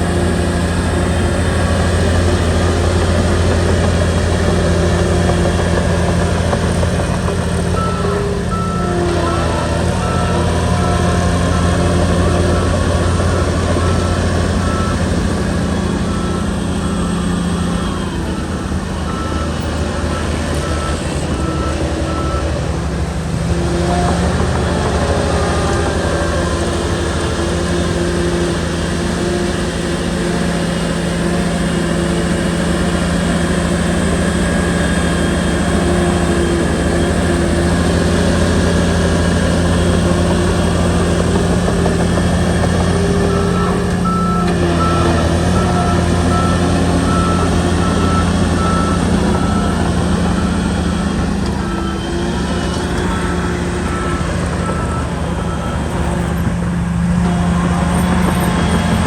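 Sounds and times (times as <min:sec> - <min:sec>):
bulldozer diesel engine running: 0:00.0 - 0:59.0
reversing alarm beeping: 0:00.0 - 0:59.0.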